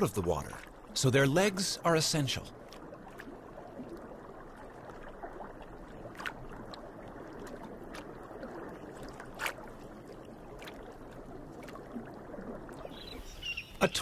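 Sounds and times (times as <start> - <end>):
underwater watery wash: 0.0 - 14.0.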